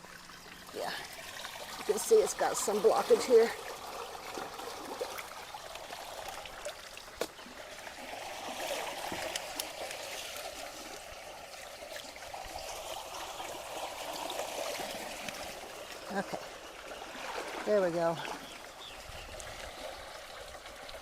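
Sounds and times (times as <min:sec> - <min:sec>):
water trickling through a culvert: 0:00.0 - 0:21.0.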